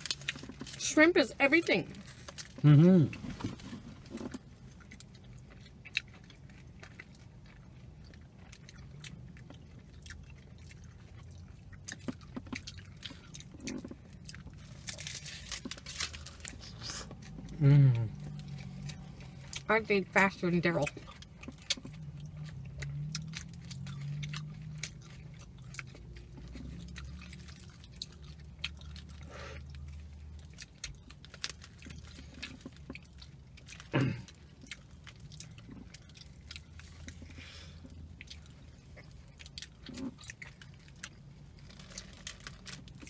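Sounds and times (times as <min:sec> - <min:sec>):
people chewing food: 0:00.0 - 0:43.0.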